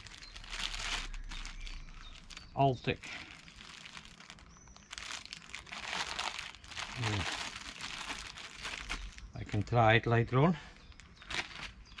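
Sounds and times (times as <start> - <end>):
packaging crinkling: 0.0 - 9.6, 10.8 - 12.0.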